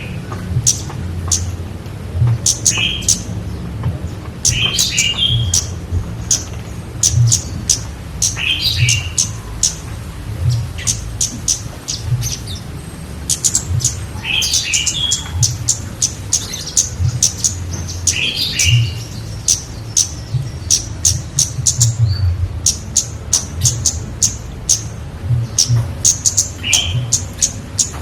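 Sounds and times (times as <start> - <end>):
songbird chirping and warbling: 0.0 - 28.0.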